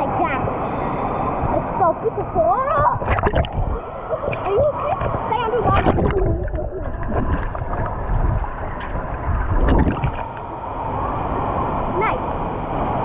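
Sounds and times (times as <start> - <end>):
water churning and sloshing: 0.0 - 13.0.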